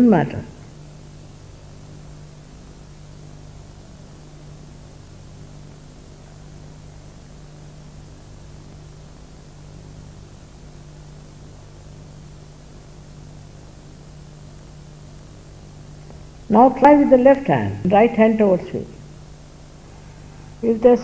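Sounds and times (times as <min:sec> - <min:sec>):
low even hum: 0:00.0 - 0:21.0
steady hiss: 0:00.0 - 0:21.0.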